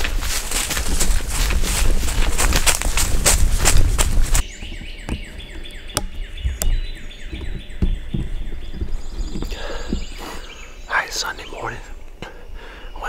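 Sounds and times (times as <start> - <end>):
footsteps clicks and thumps: 0.0 - 10.8
songbirds chirping: 0.0 - 13.0.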